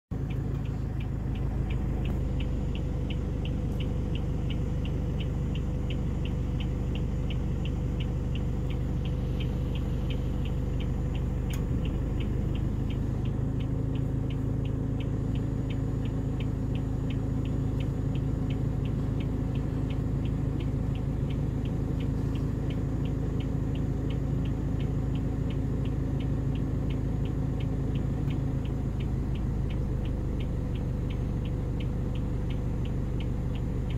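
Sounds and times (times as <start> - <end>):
vehicle engine idling: 0.0 - 33.9.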